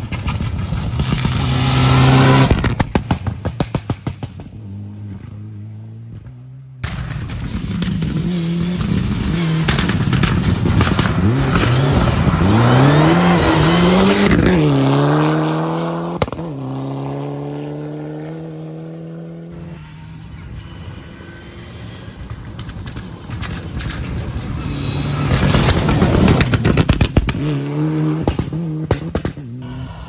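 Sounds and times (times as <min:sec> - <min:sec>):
rally car engine passing: 0:00.1 - 0:30.0.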